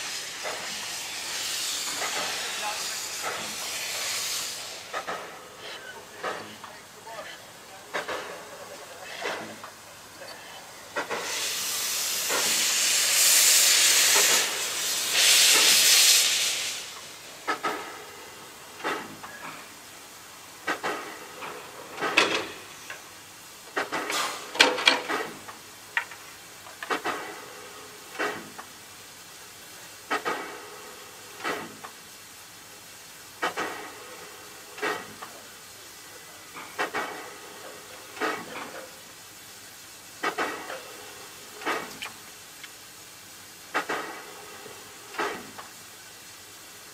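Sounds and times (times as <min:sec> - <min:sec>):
sharp steam puffs: 0:00.0 - 0:46.9
steam hissing from locomotive: 0:00.0 - 0:46.9.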